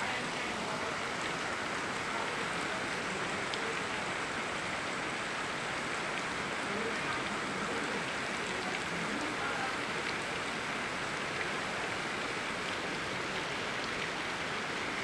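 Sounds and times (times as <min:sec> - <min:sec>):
river water running: 0:00.0 - 0:15.0
steady rain: 0:00.0 - 0:15.0.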